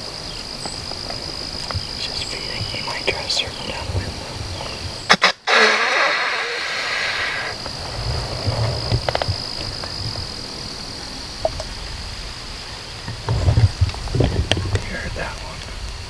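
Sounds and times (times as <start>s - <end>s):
insect chirring: 0.0s - 16.0s
rustling hiss: 0.0s - 16.0s.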